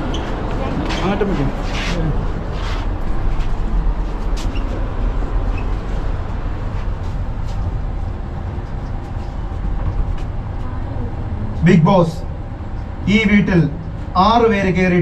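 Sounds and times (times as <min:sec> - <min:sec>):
lift running rumble and hum: 0:00.0 - 0:15.0.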